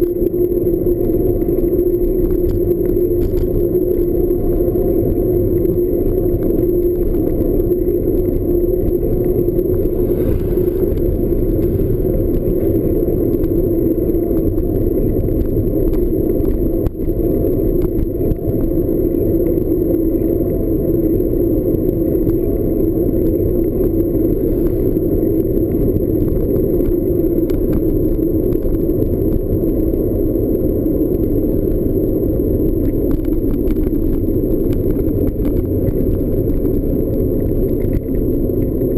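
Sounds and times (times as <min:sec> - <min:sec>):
low rumble of a ride: 0:00.0 - 0:38.9.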